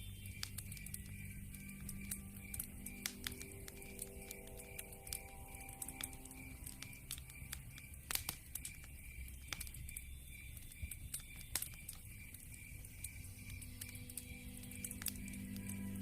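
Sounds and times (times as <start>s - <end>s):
low rumble of flames: 0.0s - 16.0s
wood fire crackling: 0.0s - 16.0s
sharp pops of fire: 0.3s - 16.0s.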